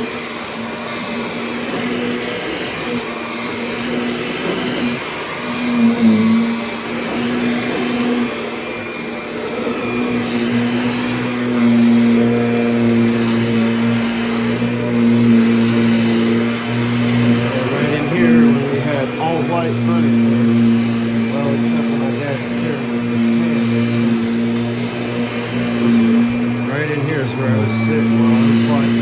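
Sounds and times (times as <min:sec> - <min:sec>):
upright vacuum motor hum: 0:00.0 - 0:29.0.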